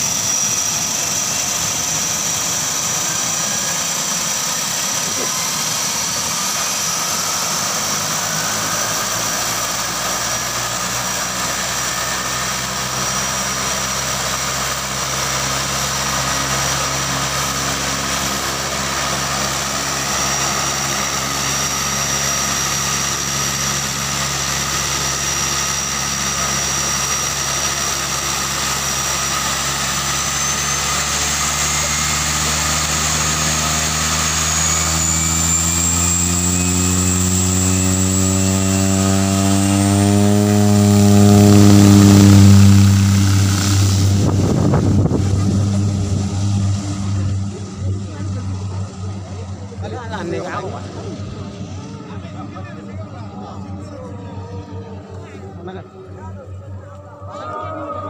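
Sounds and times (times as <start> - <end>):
high turbine whine: 0.0 - 58.0
turboprop engine idling: 0.0 - 58.0.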